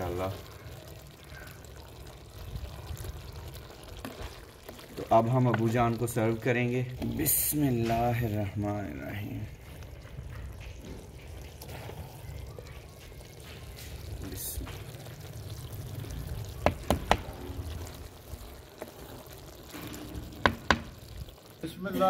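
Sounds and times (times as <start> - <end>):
food sloshing and plopping: 0.0 - 21.6.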